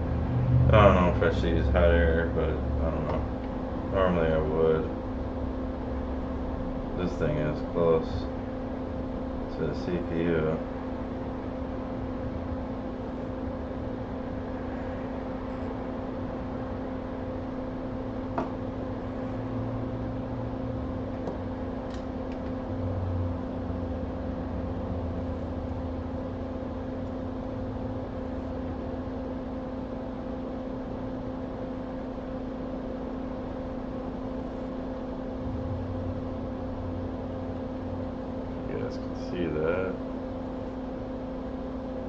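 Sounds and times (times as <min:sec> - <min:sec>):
electric fan humming: 0:00.0 - 0:42.0.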